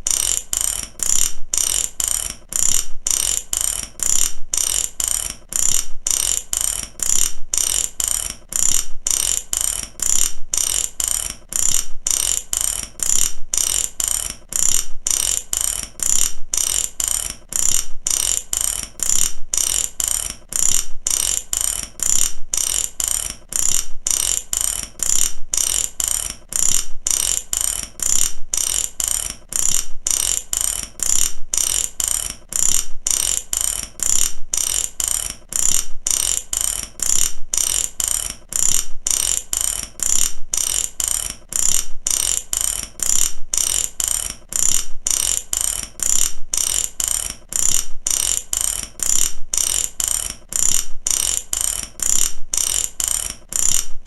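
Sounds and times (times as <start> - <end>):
ratchet clicking rapidly: 0.0 - 54.0.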